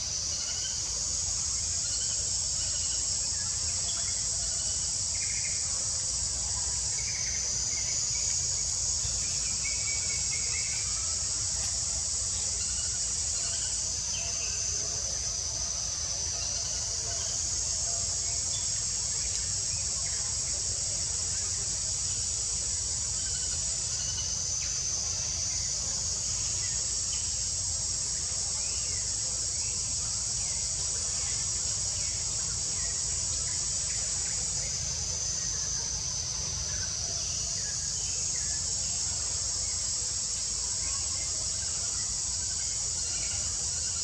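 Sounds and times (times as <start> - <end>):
insect chorus drone: 0.0 - 44.0.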